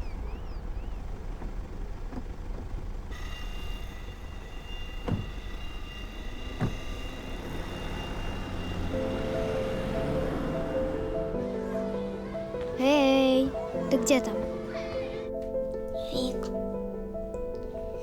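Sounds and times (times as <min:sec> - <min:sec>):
music: 0:03.2 - 0:18.0.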